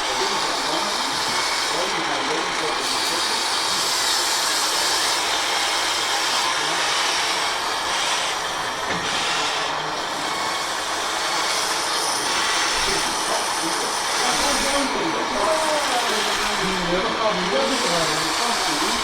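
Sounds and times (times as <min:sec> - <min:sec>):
electric motors whirring: 0:00.0 - 0:19.0.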